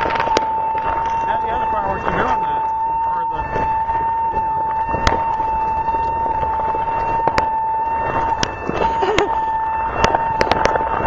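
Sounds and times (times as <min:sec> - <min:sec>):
fireworks popping: 0:00.0 - 0:02.8, 0:03.4 - 0:11.0
car alarm steady high tone: 0:00.0 - 0:11.0.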